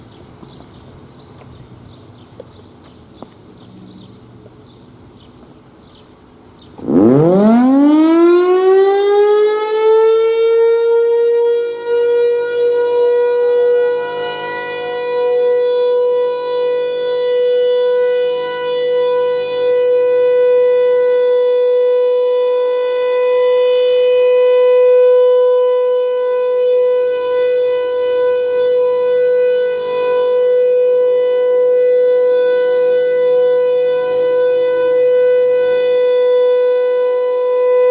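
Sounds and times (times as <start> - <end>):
civil defense siren winding up: 6.8 - 37.9.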